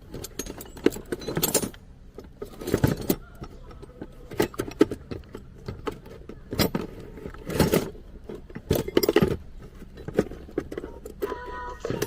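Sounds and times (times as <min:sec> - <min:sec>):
metal tools clinking: 0:00.0 - 0:12.0.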